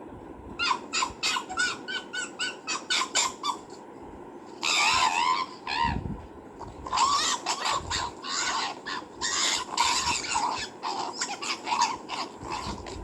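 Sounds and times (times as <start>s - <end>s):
fox wavering scream: 0.6s - 3.8s, 4.6s - 6.0s, 6.8s - 13.0s
fox yapping calls: 0.6s - 3.8s, 4.6s - 6.0s, 6.8s - 13.0s.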